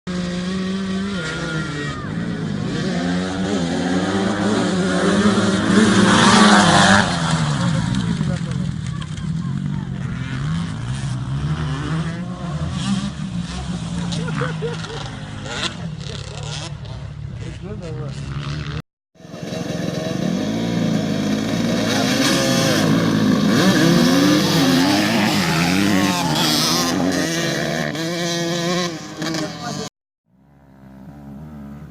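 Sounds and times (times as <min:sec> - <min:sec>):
dirt bike engine revving: 0:00.1 - 0:29.9, 0:30.6 - 0:31.9.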